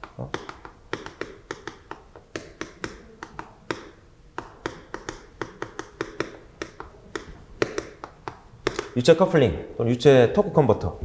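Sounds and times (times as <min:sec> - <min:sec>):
chalk tapping and scratching: 0:00.0 - 0:09.0.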